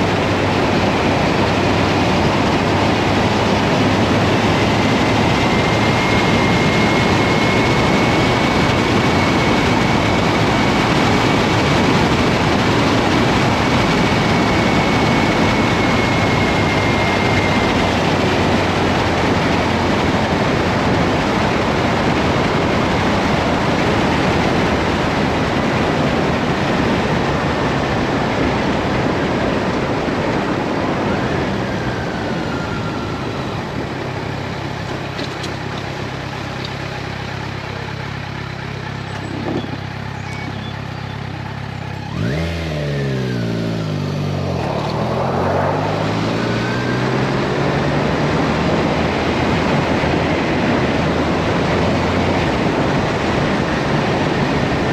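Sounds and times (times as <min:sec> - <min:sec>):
wind rush: 0:00.0 - 0:35.1, 0:42.1 - 0:54.9
motorcycle engine: 0:00.0 - 0:54.9.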